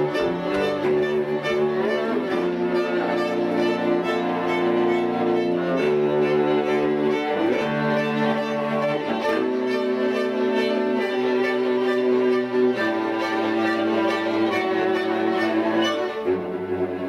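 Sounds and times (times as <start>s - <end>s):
string quartet chords: 0.0s - 17.0s.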